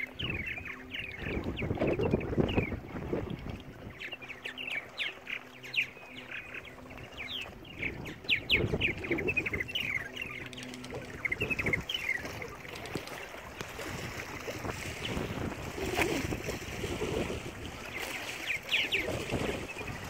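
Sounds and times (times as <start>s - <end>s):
wind buffeting microphone: 0.0s - 5.1s, 5.7s - 20.0s
birds chirping: 0.0s - 20.0s
low motor hum: 0.0s - 20.0s.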